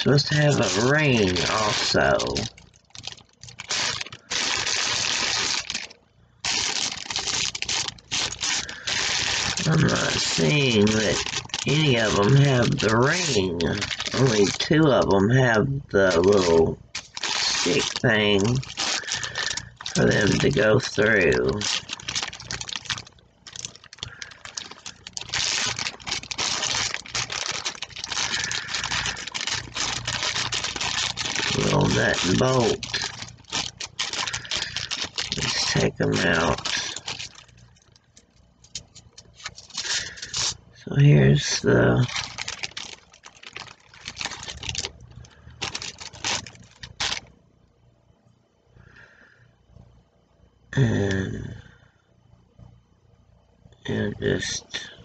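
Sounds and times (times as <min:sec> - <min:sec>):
plastic bag crinkling: 0:00.0 - 0:40.6, 0:41.3 - 0:47.4.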